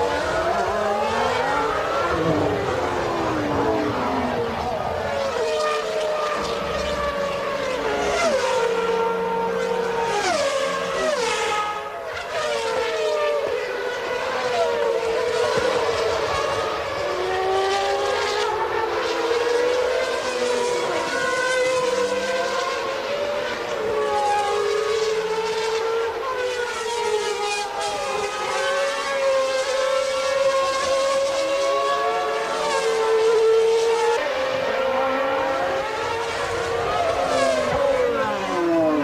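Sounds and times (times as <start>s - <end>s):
racing car engines at high revs: 0.0s - 39.0s.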